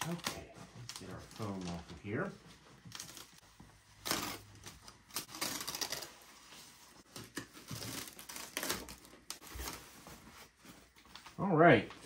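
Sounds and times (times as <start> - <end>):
plastic and foam crinkling: 0.0 - 12.0.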